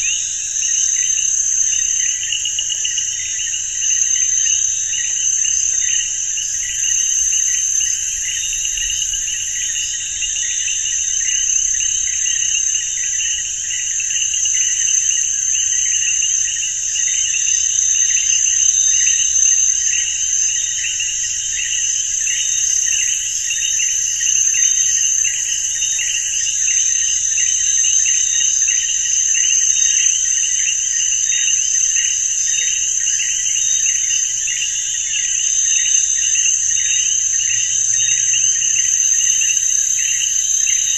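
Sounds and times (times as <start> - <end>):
field insects chirping: 0.0 - 40.9.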